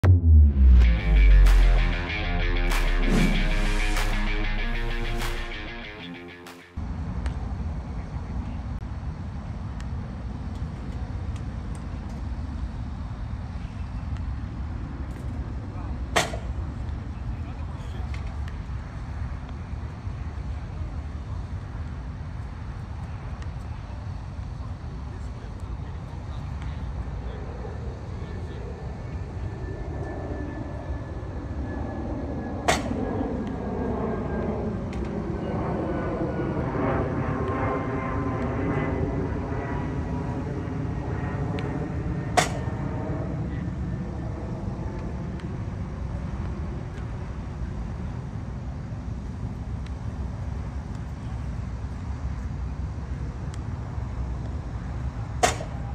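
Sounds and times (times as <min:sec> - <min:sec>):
steady outdoor rumble: 0:00.0 - 0:55.9.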